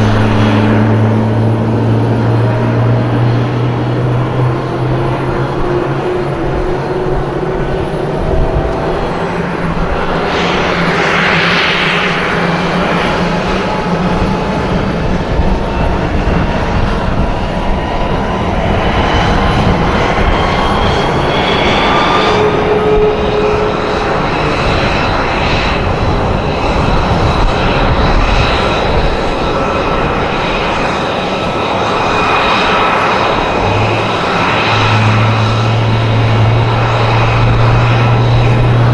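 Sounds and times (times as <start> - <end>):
aircraft engine noise: 0.0 - 38.9.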